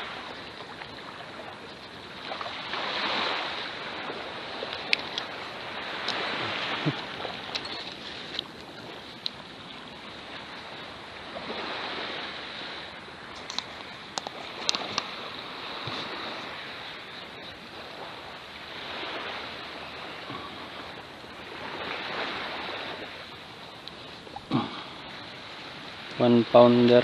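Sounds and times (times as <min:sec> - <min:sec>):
surf washing on shore: 0:00.0 - 0:27.0.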